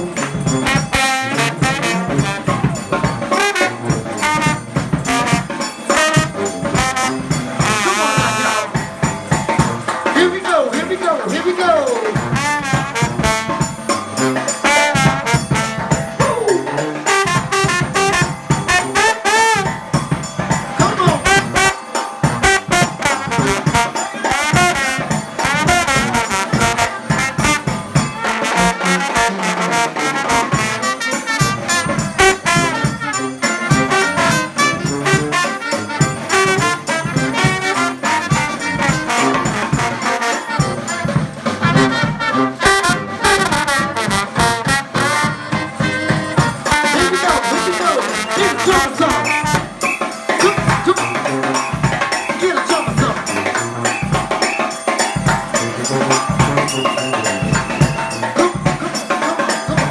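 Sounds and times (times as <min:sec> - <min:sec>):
brass band playing: 0:00.0 - 0:59.9
sharp percussive hits: 0:00.0 - 0:59.9.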